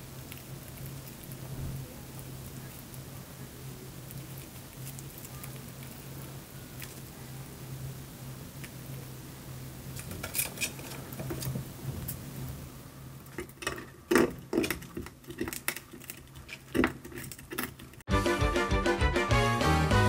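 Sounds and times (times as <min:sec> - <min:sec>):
squirrel gnawing tape: 0:00.0 - 0:12.6, 0:13.2 - 0:18.1.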